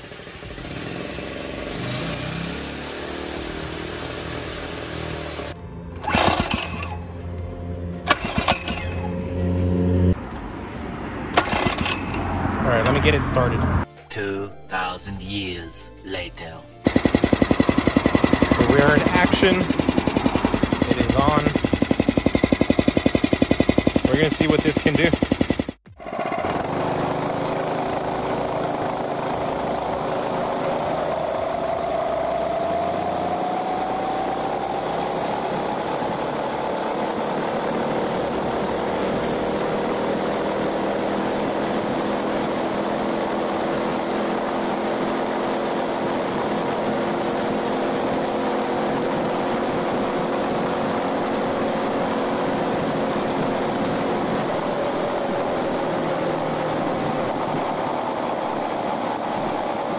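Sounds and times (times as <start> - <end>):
electric motor hum and whine: 0.0 - 6.2, 8.8 - 10.2, 16.8 - 25.7, 27.6 - 59.9.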